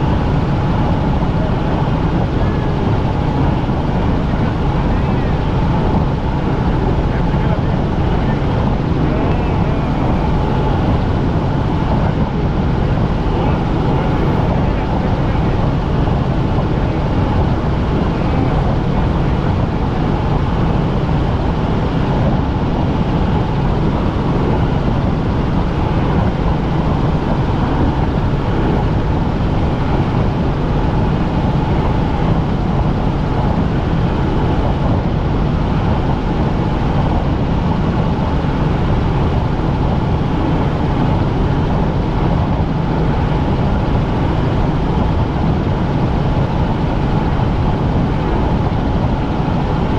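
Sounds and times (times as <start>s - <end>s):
helicopter rotor and engine drone: 0.0s - 49.9s.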